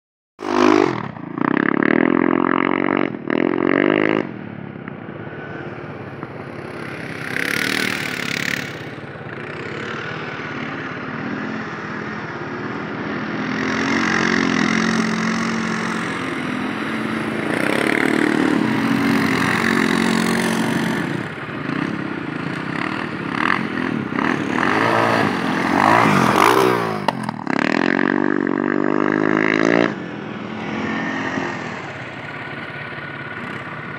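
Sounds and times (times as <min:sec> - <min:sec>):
dirt bike and atv engines revving: 0:00.4 - 0:33.9.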